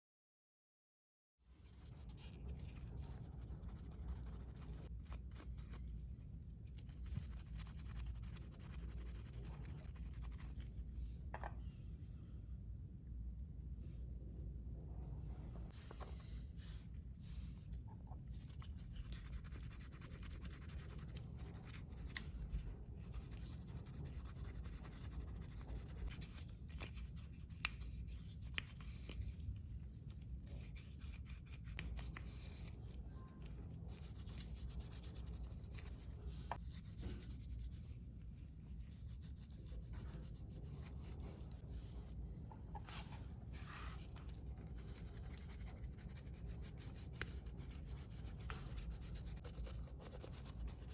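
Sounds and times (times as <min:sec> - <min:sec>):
steady low hum: 0:01.5 - 0:50.9.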